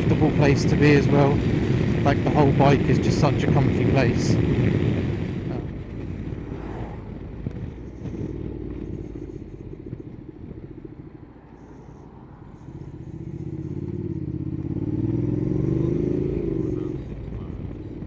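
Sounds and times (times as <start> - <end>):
motorcycle engine: 0.0 - 18.0
road and wind noise: 0.0 - 18.0.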